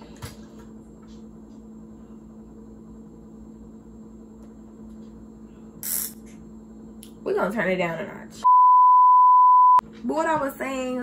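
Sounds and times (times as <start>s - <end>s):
low electrical hum: 0.0s - 8.6s, 9.8s - 11.0s.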